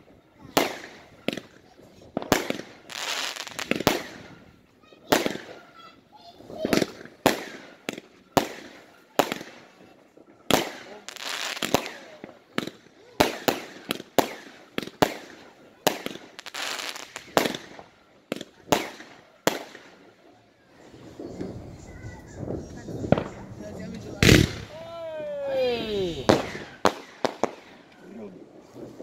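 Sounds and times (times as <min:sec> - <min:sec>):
fireworks bangs: 0:00.0 - 0:29.0
fireworks crackling: 0:00.0 - 0:29.0.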